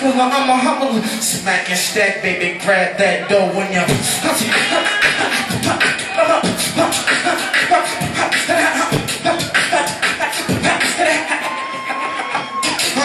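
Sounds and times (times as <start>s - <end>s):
person beatboxing into microphone: 0.0s - 13.0s.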